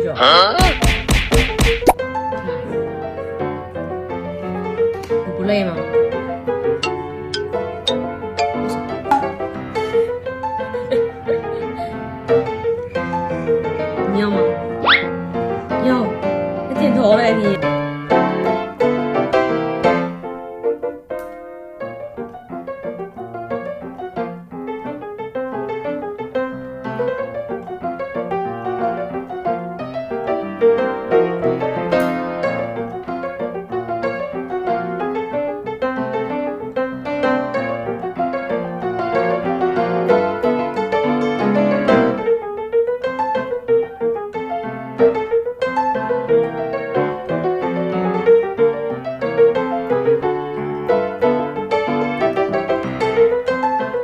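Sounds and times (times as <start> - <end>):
piano music: 1.9 - 54.0.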